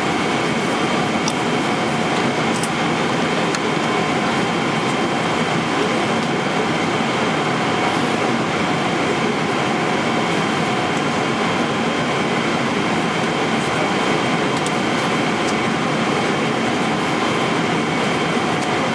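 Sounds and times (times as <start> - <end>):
airplane cabin noise: 0.0 - 18.9.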